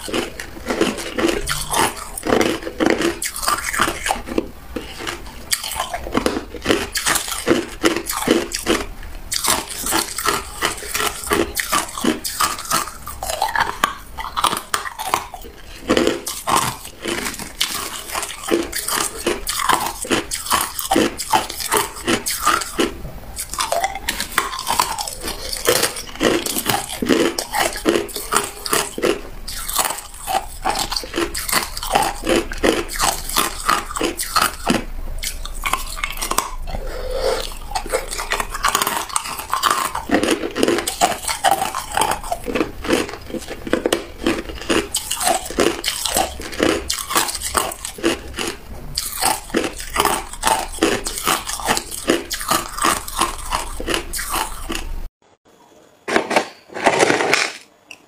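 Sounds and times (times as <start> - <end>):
person crunching ice: 0.0 - 54.9.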